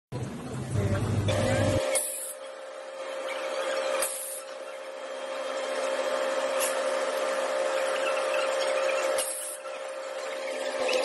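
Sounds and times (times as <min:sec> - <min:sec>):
welding machine humming: 0:00.2 - 0:11.0.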